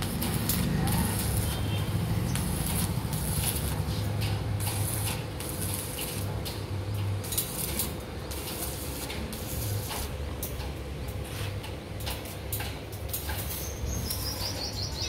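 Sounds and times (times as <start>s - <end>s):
welding arc hissing and crackling: 0.0s - 15.0s.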